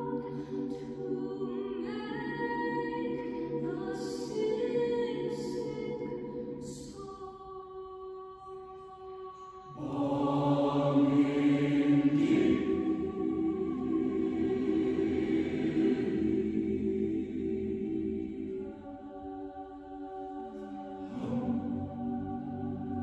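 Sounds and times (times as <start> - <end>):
choir singing a held chord: 0.0 - 6.9, 9.4 - 23.0.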